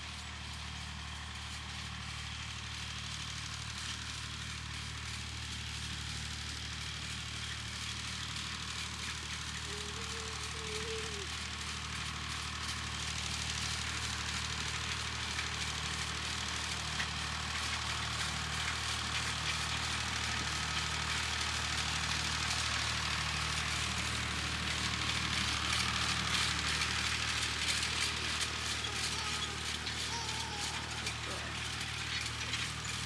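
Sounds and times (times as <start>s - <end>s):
distant tractor engine running: 0.4s - 33.0s.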